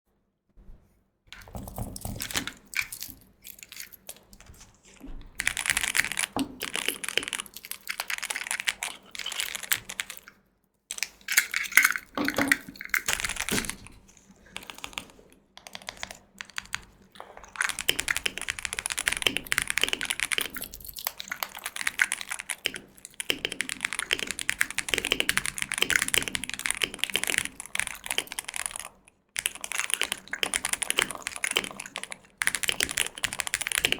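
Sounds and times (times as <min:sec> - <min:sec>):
keyboard typing: 0:01.4 - 0:04.5, 0:05.4 - 0:10.3, 0:10.9 - 0:33.9.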